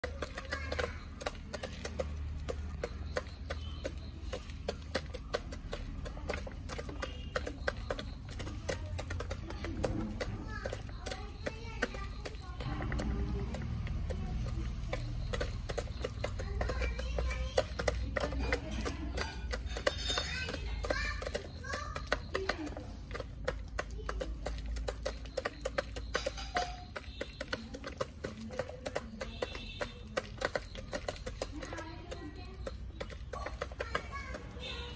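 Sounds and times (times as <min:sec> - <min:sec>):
chickens pecking at plastic tray: 0:00.0 - 0:34.9.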